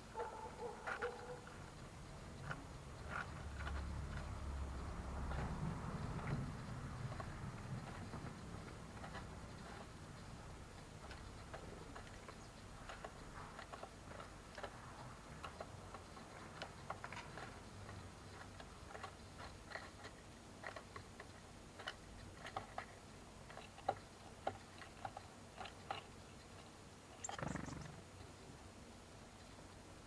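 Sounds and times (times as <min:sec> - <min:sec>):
birds pecking seeds on wood: 0:00.0 - 0:28.4.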